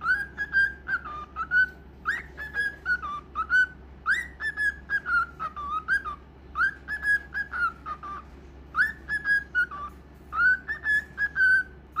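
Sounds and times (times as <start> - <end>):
cockatiel whistling: 0.0 - 12.0.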